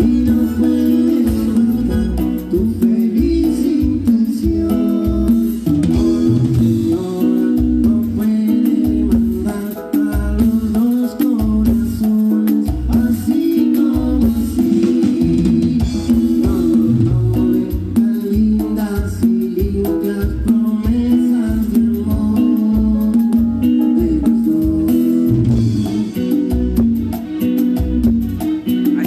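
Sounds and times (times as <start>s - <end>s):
person singing lead vocal: 0.0s - 26.9s
live band playing cumbia: 0.0s - 29.0s.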